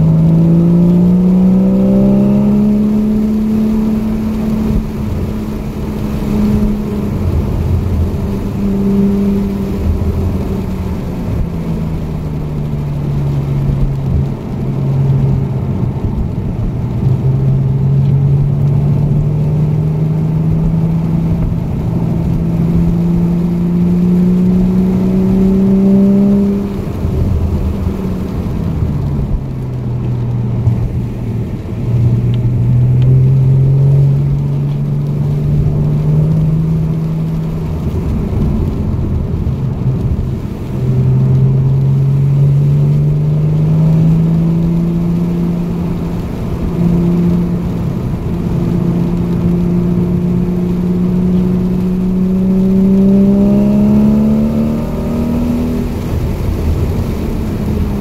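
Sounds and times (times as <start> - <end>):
car engine revving: 0.0 - 58.0
wind: 0.0 - 58.0.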